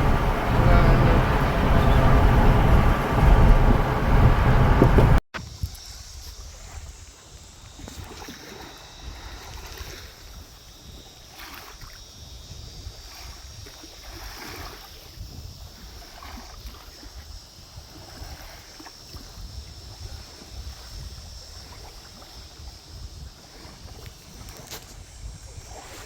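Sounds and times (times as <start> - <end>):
water lapping against a dock: 0.0 - 5.2, 6.4 - 26.0
wind rumbling on microphone: 0.0 - 8.2, 12.2 - 26.0
insects buzzing: 0.0 - 26.0.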